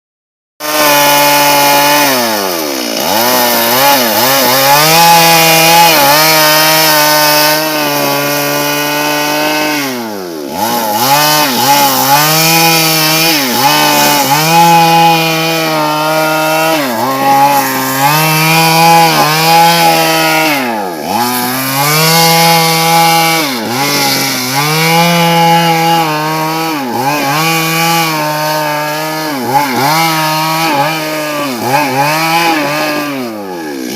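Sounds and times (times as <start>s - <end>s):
chainsaw cutting log: 0.6s - 33.9s.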